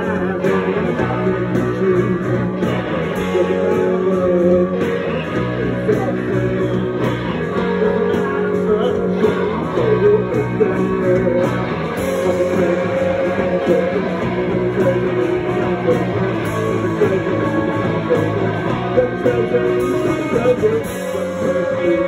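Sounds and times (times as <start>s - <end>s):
drums keeping a steady beat: 0.0s - 22.0s
electric guitars: 0.0s - 22.0s
man singing: 0.0s - 22.0s.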